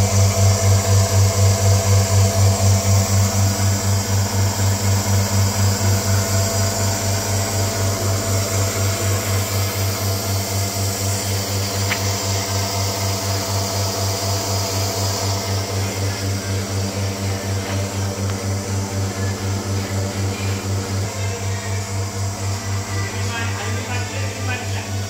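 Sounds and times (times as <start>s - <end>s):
small engine humming and throbbing: 0.0s - 25.0s.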